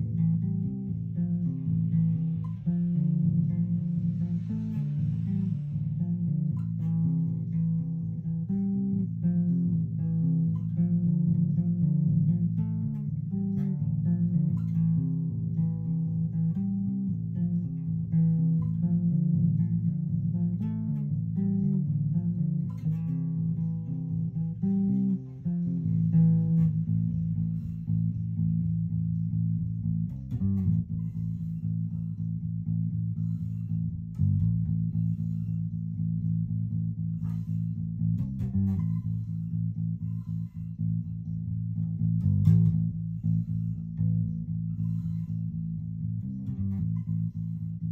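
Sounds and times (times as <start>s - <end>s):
electric bass guitar plucked: 0.0s - 47.9s.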